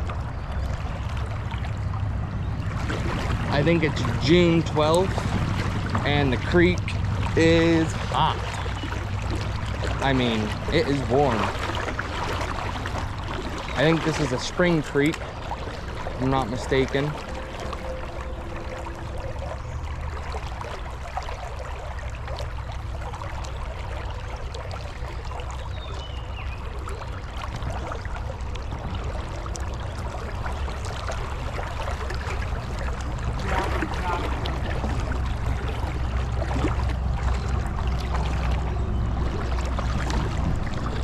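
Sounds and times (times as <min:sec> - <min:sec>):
low rumble: 0:00.0 - 0:25.5, 0:26.1 - 0:41.0
creek water trickling: 0:00.0 - 0:41.0.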